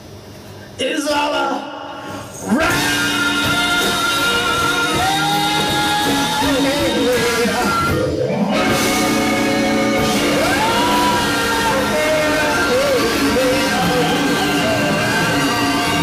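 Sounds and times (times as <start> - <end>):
keyboard: 1.9 - 16.0
electric guitar: 2.1 - 16.0
live blues band playing: 2.3 - 16.0.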